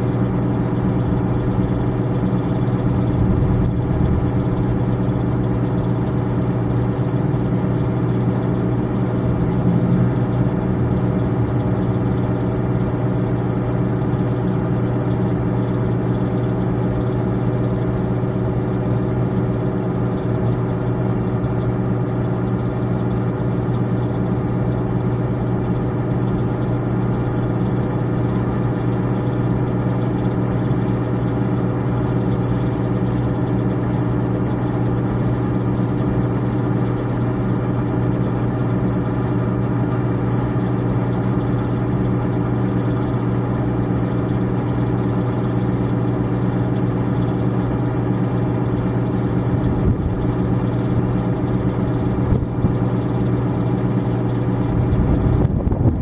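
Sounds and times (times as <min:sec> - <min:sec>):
low mechanical drone: 0:00.0 - 0:56.0.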